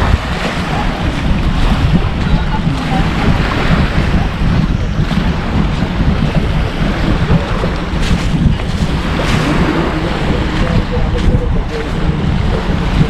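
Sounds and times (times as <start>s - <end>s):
waves breaking on shore: 0.0s - 13.0s
wind buffeting microphone: 0.0s - 13.0s.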